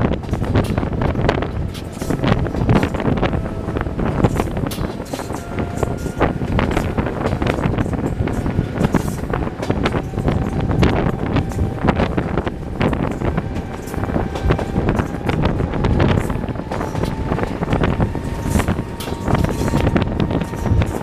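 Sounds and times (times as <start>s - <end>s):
train running rumble: 0.0s - 21.0s
wheels clicking on track: 0.0s - 21.0s
wind buffeting microphone: 0.0s - 21.0s.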